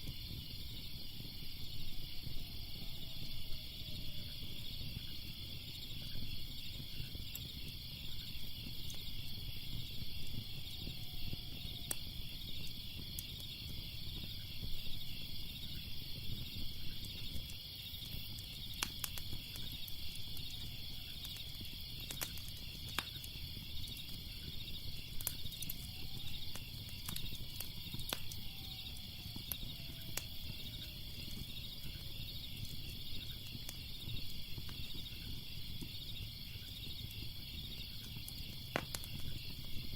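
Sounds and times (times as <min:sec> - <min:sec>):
crickets chirping: 0:00.0 - 0:39.9
fire crackling and popping: 0:00.0 - 0:39.9.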